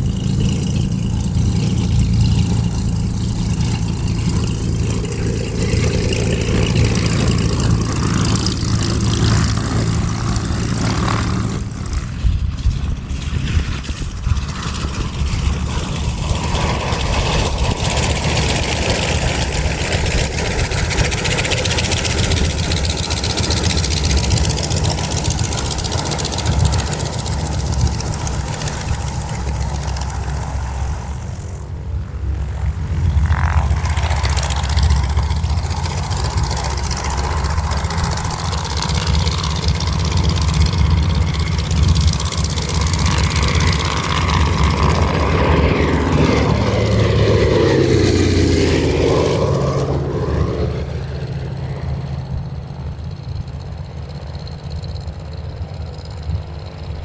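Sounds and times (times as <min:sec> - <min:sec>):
radial piston aircraft engines: 0:00.0 - 0:57.0.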